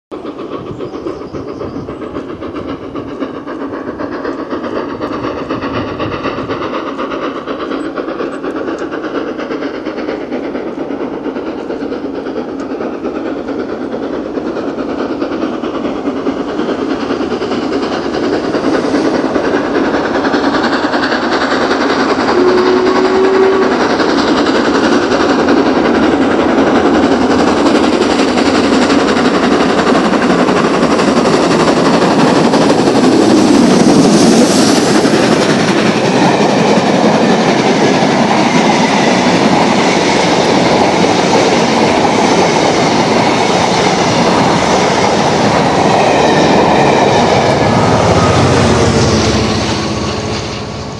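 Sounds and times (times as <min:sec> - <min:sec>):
steam locomotive exhaust beats: 0:00.1 - 0:50.9.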